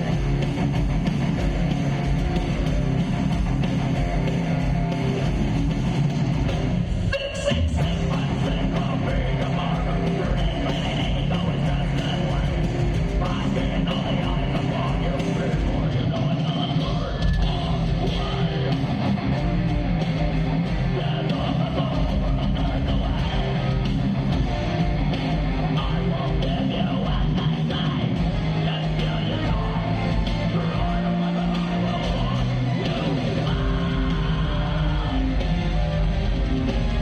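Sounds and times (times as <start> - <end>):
heavy metal band playing live: 0.0 - 37.0.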